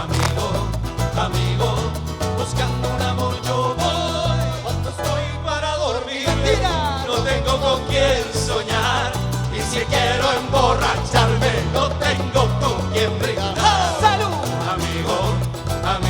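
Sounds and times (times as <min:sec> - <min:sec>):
live band playing latin song: 0:00.0 - 0:05.3, 0:06.3 - 0:16.0.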